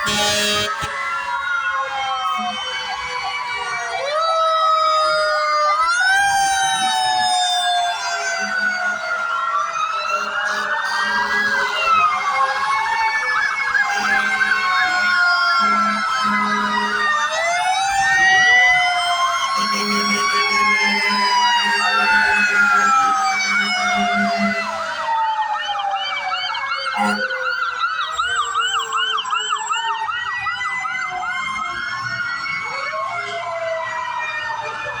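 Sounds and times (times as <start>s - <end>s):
fire truck sirens wailing: 0.0s - 35.0s
siren yelp sweeps: 0.0s - 35.0s.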